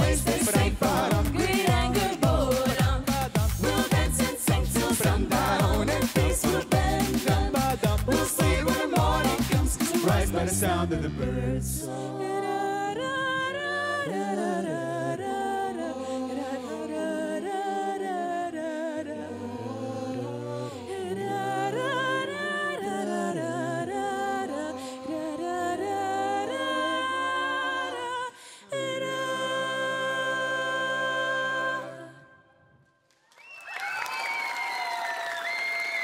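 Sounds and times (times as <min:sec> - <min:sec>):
vocal group singing a cappella: 0:00.0 - 0:32.7.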